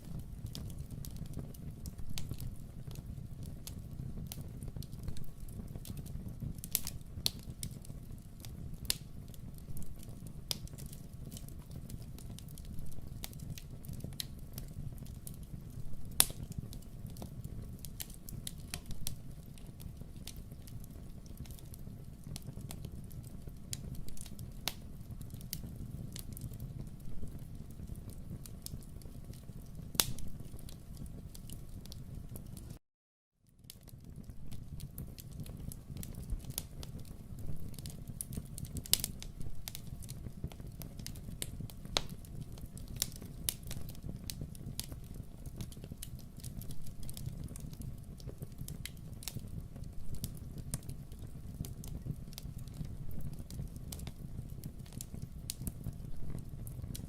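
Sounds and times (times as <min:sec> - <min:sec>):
wood fire crackling: 0:00.0 - 0:32.8, 0:33.6 - 0:57.0.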